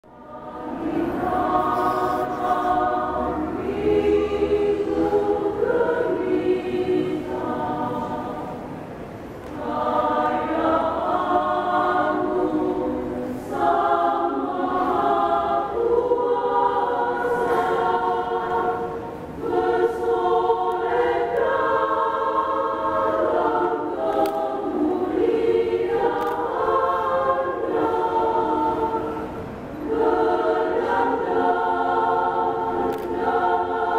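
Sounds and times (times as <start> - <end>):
women's choir singing a hymn: 0.0 - 33.9.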